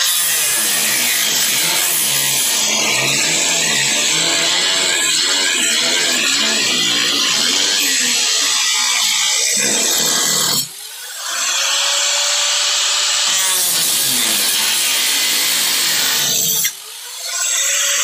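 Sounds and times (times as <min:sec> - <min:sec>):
power tool cutting sheet metal: 0:00.0 - 0:18.0.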